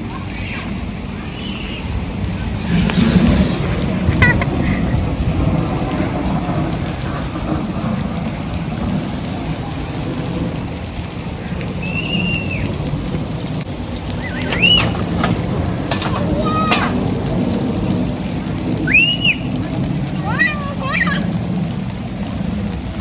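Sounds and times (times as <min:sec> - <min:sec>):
artificial rain falling: 0:00.0 - 0:23.0.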